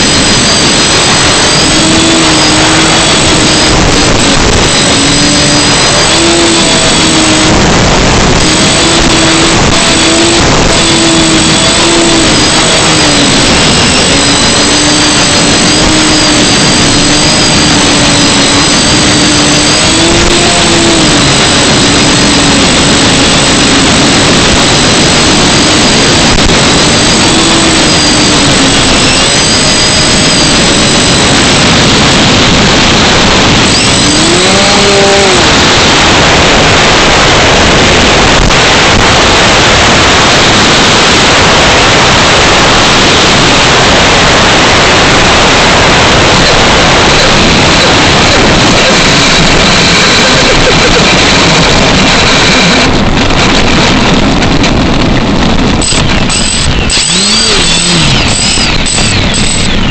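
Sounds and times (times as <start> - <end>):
drone motors whining: 0.0 - 59.9
loud rushing noise: 0.0 - 59.9.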